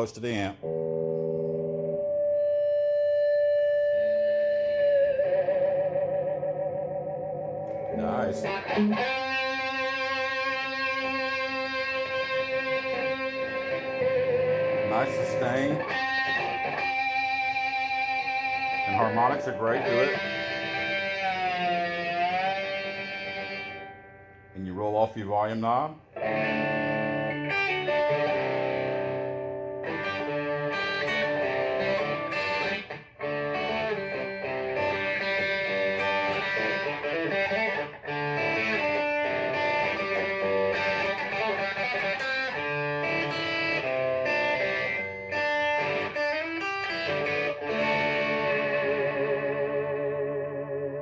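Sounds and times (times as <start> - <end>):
electric guitar notes and chords: 0.0 - 24.6, 26.0 - 51.0.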